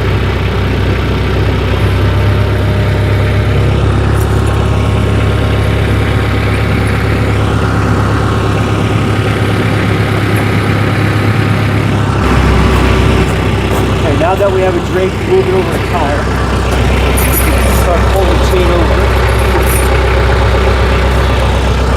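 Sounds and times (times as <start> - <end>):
tractor engine running: 0.0 - 21.9.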